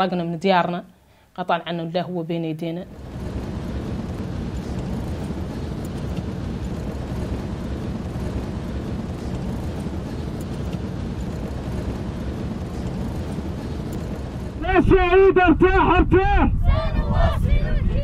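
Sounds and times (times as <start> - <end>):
vehicle engine and road rumble: 2.4 - 18.0.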